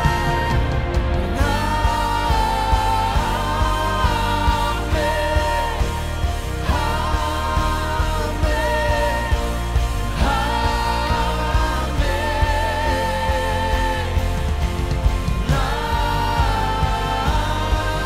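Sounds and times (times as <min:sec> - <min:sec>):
drum and bass beat: 0:00.0 - 0:18.0
worship band singers: 0:00.0 - 0:18.0.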